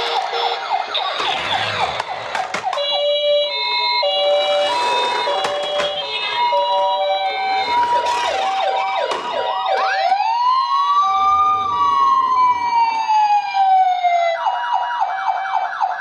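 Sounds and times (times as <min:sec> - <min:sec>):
rapid siren yelp: 0:00.0 - 0:16.0
toy electronic sirens wailing: 0:00.0 - 0:16.0
two-tone hi-lo siren tones: 0:00.0 - 0:16.0.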